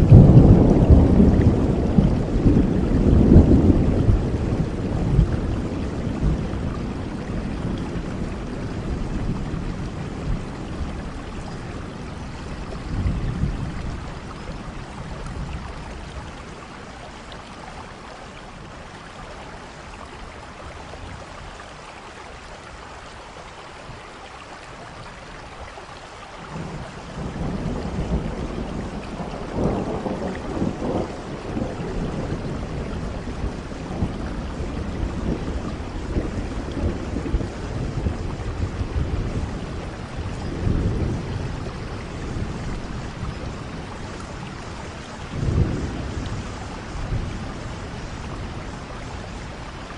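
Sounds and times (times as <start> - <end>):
thunder rumbling: 0.0 - 16.8, 26.5 - 49.9
steady rain: 0.0 - 49.9.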